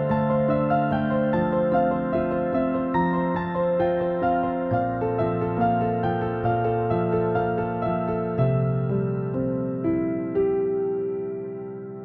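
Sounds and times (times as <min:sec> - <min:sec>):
gentle keyboard melody: 0:00.0 - 0:12.0.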